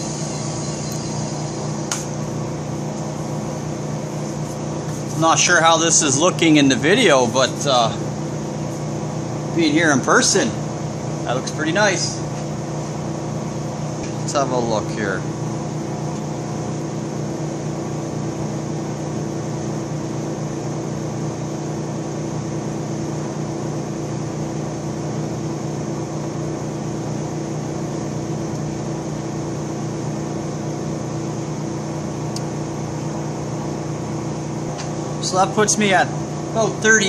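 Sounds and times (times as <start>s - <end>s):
electric motor hum: 0.0s - 37.0s.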